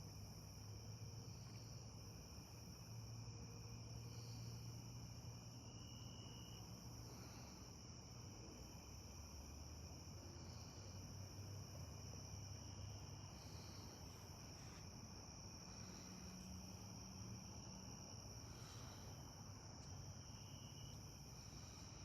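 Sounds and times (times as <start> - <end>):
crickets chirping: 0.0 - 22.0
low background hum: 0.0 - 22.0.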